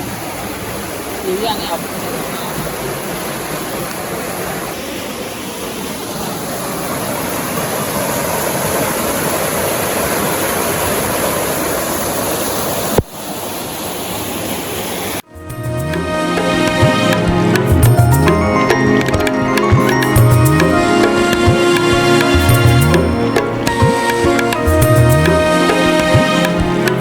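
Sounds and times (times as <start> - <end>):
flowing water rushing: 0.0 - 27.0.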